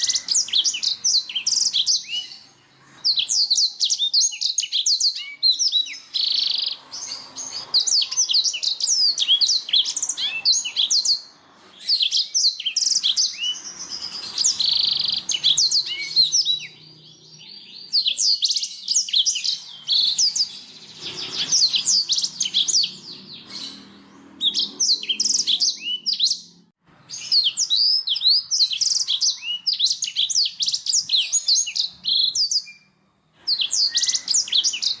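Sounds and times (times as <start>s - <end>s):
canary singing: 0.0s - 35.0s.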